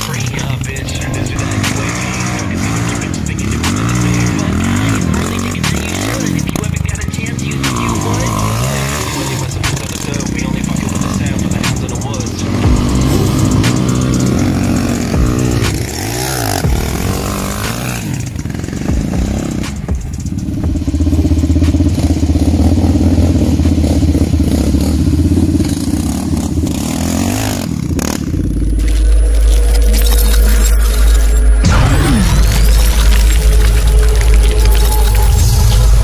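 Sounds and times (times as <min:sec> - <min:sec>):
quad engines revving and passing: 0:00.0 - 0:36.0.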